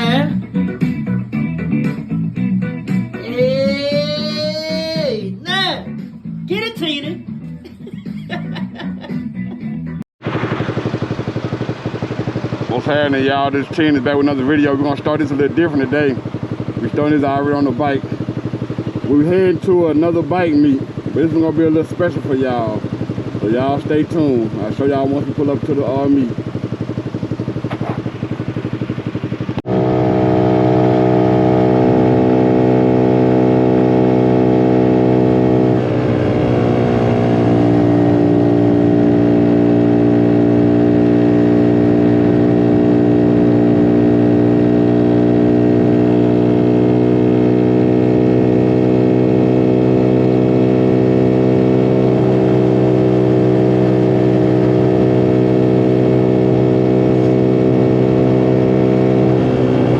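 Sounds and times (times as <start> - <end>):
small motorcycle engine running: 0.0 - 5.2, 6.5 - 59.9.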